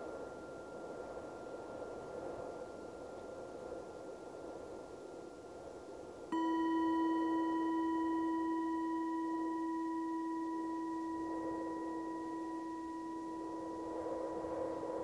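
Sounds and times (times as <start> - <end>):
singing bowl ringing: 0.0 - 4.3, 6.3 - 15.0
soft wind noise: 0.0 - 15.0.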